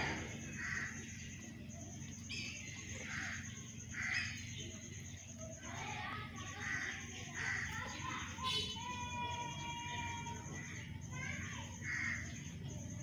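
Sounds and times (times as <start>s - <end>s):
mynah bird calling: 0.0s - 13.0s.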